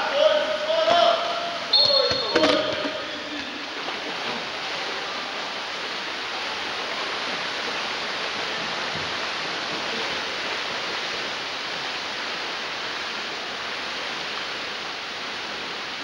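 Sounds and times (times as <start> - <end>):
swimmers splashing water: 0.0 - 16.0.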